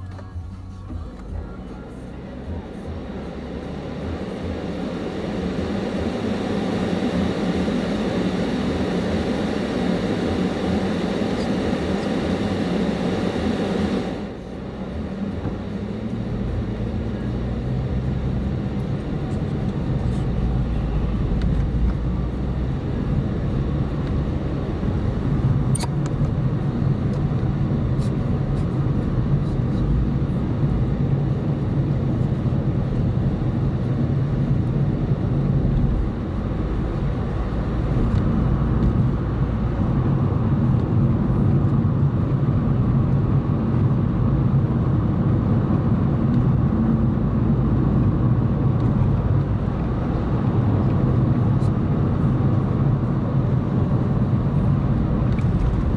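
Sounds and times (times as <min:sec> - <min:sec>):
car engine and tyre noise: 0:00.0 - 0:55.9.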